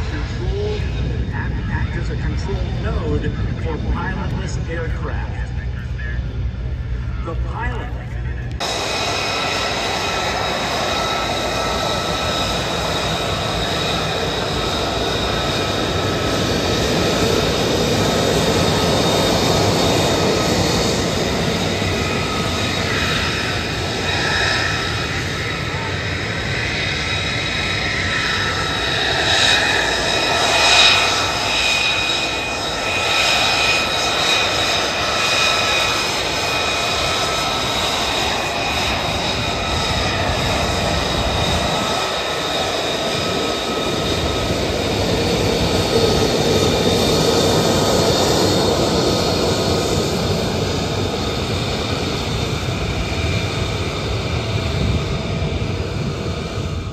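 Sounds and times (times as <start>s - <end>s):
jet engines whining at taxi power: 0.0s - 56.9s.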